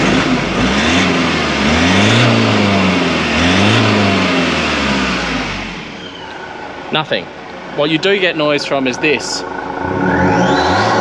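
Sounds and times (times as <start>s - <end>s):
car engine revving: 0.0s - 7.4s, 8.4s - 11.0s.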